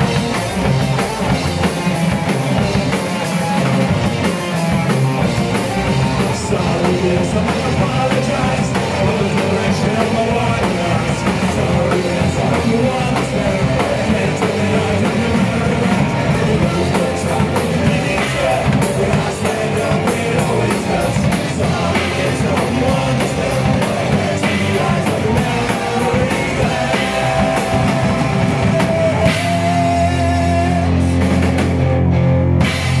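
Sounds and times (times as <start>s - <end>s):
punk rock band playing: 0.0s - 33.0s.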